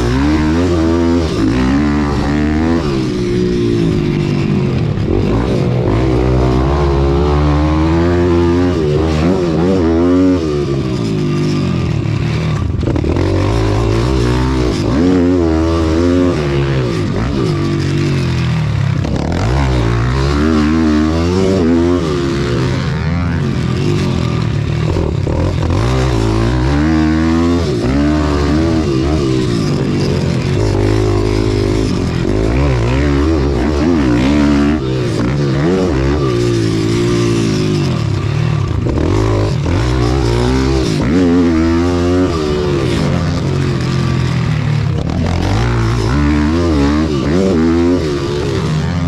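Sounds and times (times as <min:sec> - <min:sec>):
pit bike engines revving: 0:00.0 - 0:49.0.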